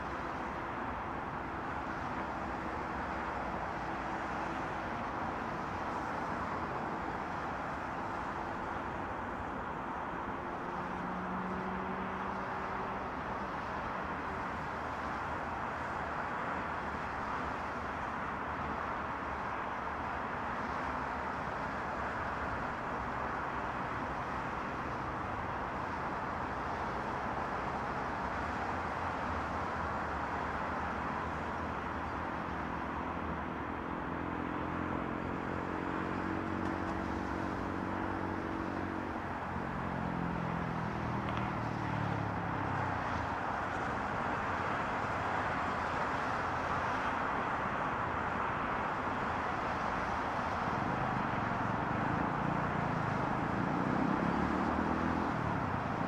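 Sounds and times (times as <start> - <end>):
highway traffic: 0.0 - 56.0.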